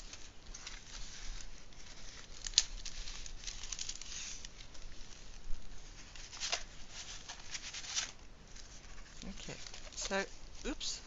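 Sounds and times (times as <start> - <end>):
canvas rustling and crinkling: 0.0 - 11.0.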